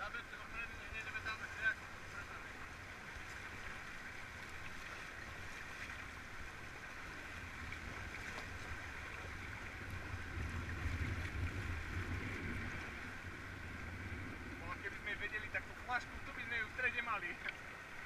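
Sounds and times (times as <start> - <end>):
river water rushing over stones: 0.0 - 18.0.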